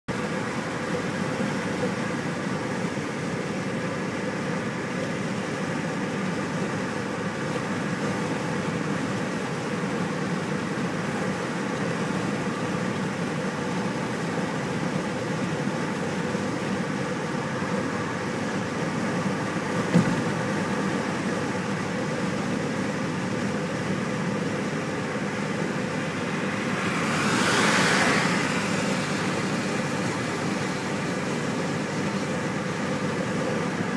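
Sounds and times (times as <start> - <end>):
car engine and road noise: 0.1 - 33.9.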